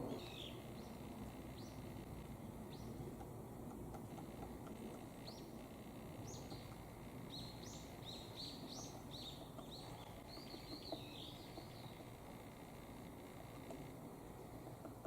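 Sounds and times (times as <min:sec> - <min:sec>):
songbird calling: 0:00.0 - 0:12.8
faint low background rumble: 0:00.0 - 0:15.0.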